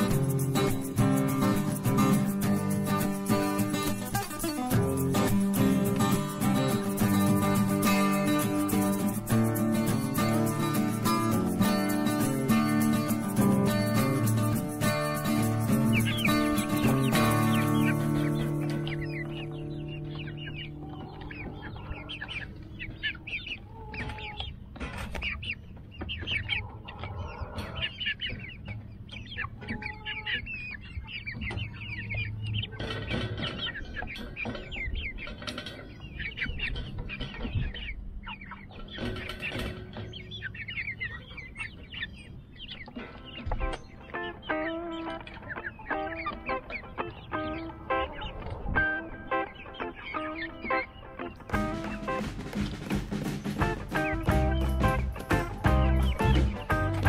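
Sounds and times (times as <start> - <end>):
chickens clucking and peeping: 0.0 - 57.0.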